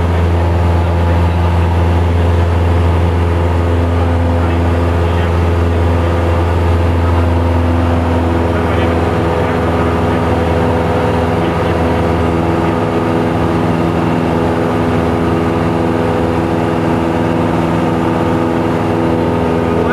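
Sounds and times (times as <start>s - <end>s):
light aircraft engine droning: 0.0s - 19.9s.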